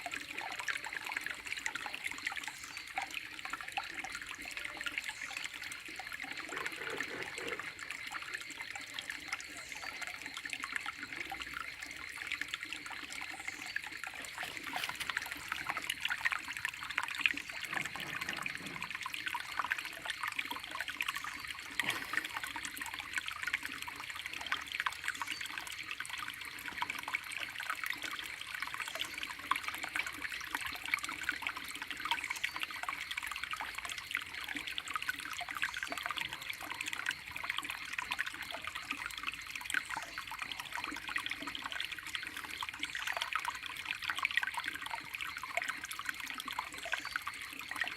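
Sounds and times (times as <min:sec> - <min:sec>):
stream water trickling: 0:00.0 - 0:47.9.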